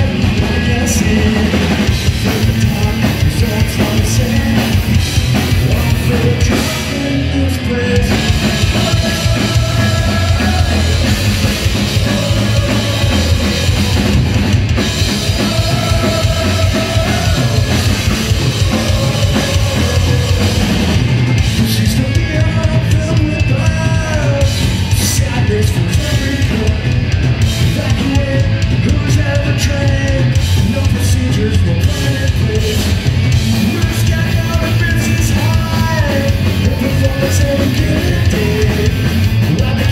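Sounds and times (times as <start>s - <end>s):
man singing: 0.0s - 27.0s, 27.6s - 39.9s
punk rock band playing: 0.0s - 39.9s.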